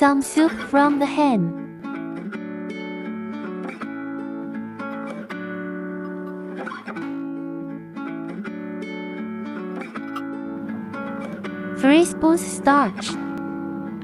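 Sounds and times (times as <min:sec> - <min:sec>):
guitar playing plucked chords: 0:00.0 - 0:14.0.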